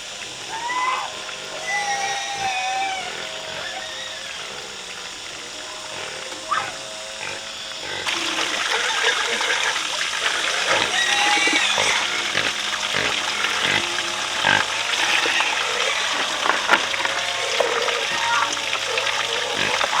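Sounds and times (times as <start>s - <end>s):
pigs grunting and squealing: 0.2s - 20.0s.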